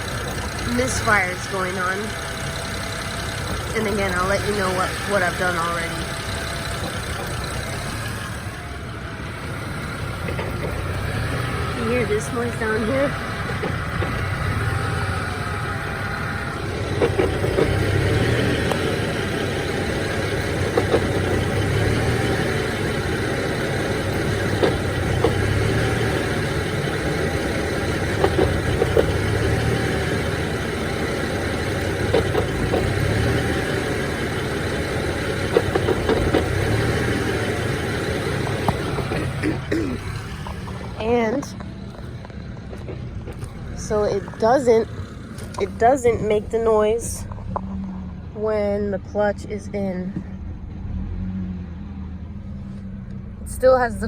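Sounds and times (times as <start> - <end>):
irregular clacking underneath car: 0.0 - 49.2
car engine idling: 0.0 - 54.0.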